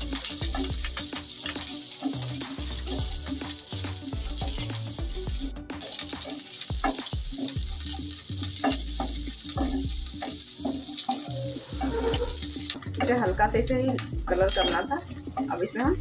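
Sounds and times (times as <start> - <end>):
spatula scraping and tapping pan: 0.0 - 13.2
onion frying with sizzling hiss: 0.0 - 16.0.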